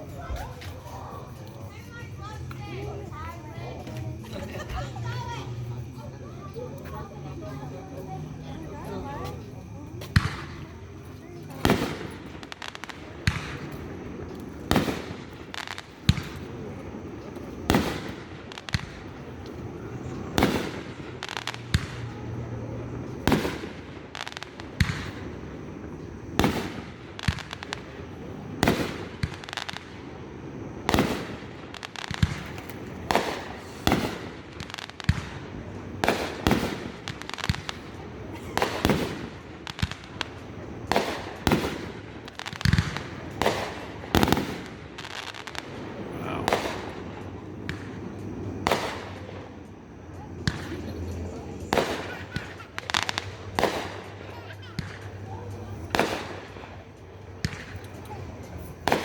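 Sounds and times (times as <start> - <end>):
fireworks bangs: 0.0 - 59.0
steady background noise: 0.0 - 59.0.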